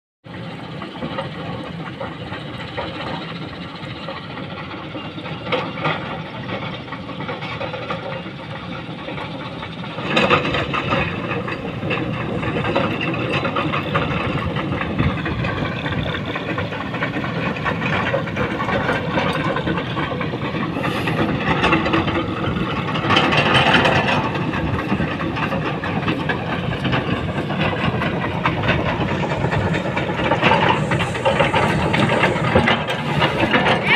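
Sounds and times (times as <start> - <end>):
excavator diesel engine running: 0.3 - 33.9.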